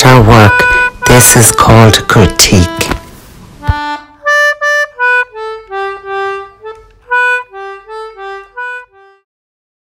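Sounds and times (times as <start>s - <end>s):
reedy instrument playing simple tune: 0.4s - 9.3s.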